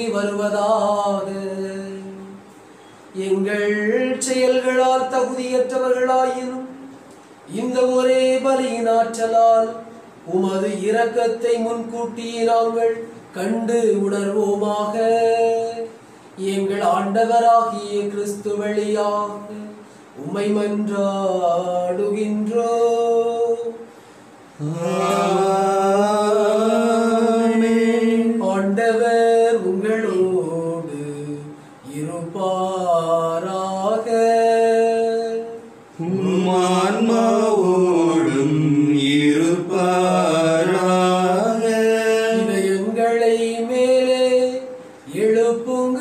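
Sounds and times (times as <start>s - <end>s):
man chanting: 0.0s - 2.4s, 3.1s - 6.9s, 7.5s - 23.9s, 24.6s - 46.0s.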